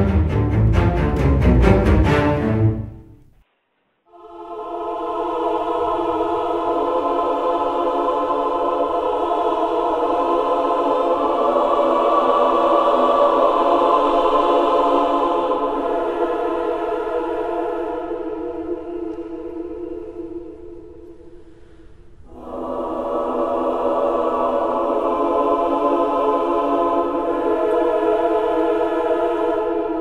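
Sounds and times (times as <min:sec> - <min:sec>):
choir holding a chord: 0:04.1 - 0:30.0.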